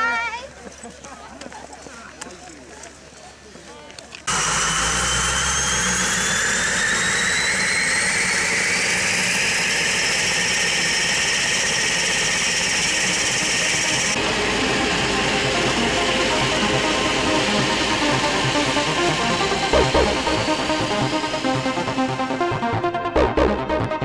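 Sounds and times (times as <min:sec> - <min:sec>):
engine running: 0:04.2 - 0:24.0
turbine whine rising in pitch: 0:04.3 - 0:24.0.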